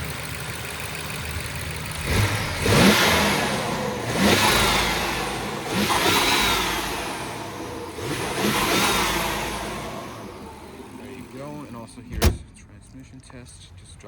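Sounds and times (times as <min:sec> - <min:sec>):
car engine revving: 0:01.4 - 0:13.6.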